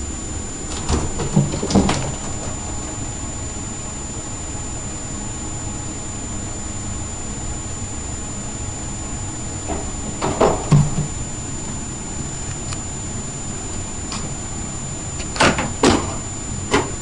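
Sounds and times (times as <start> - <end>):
high whine: 0.0 - 17.0
low hum: 0.0 - 17.0.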